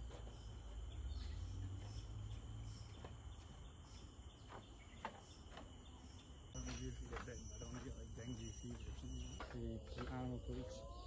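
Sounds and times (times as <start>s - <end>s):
insect chorus droning: 0.0s - 11.0s.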